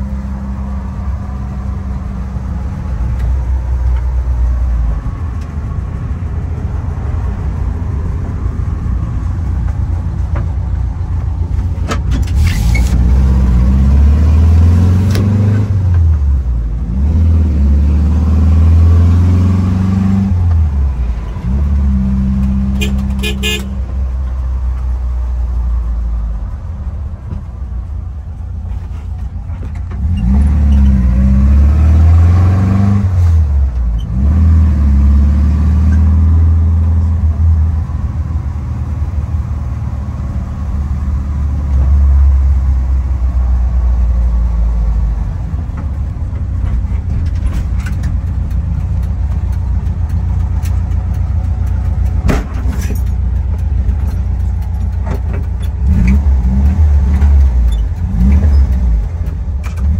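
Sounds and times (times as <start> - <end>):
van engine accelerating: 0.0 - 59.9.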